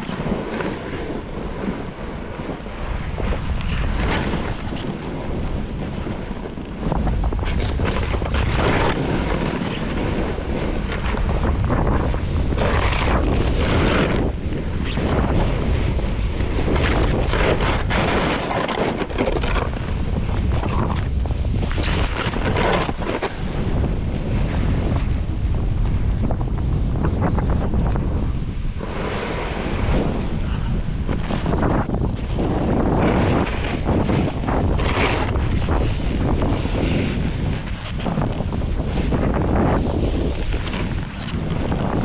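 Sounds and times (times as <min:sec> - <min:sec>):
snowboard carving on snow: 0:00.0 - 0:42.0
wind buffeting microphone: 0:00.0 - 0:42.0.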